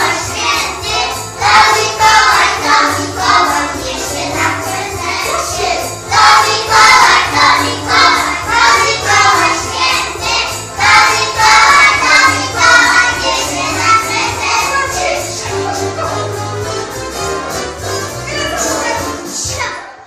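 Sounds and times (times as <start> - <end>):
children singing: 0.0 - 17.0, 17.9 - 20.0
backing music with steady beat: 0.0 - 20.0.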